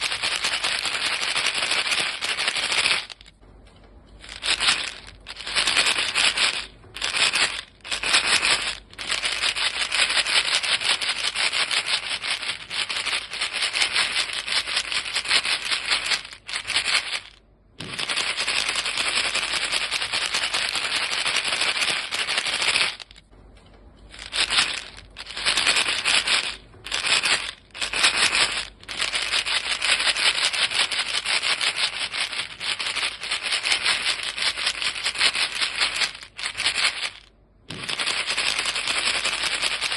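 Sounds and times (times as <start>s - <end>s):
chewing gum rattling in box: 0.0s - 3.4s, 4.2s - 23.3s, 24.1s - 39.9s.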